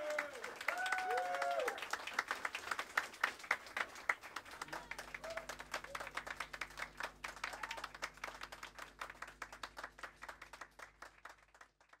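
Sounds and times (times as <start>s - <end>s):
crowd applause: 0.0s - 12.0s.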